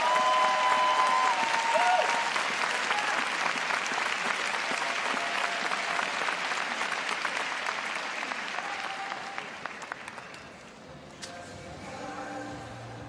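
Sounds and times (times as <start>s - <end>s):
large crowd applauding: 0.0s - 10.7s.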